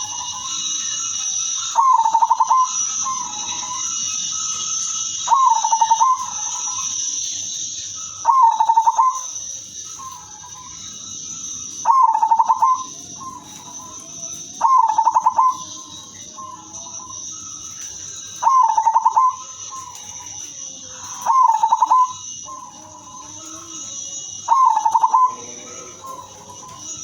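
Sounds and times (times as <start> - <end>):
dove cooing trills: 0.0 - 27.0
high-pitched hiss: 0.0 - 27.0.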